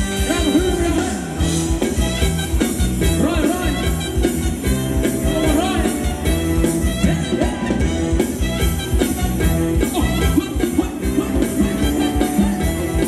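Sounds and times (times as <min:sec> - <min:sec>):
live band playing dance music: 0:00.0 - 0:13.0
steady drum beat: 0:00.0 - 0:13.0.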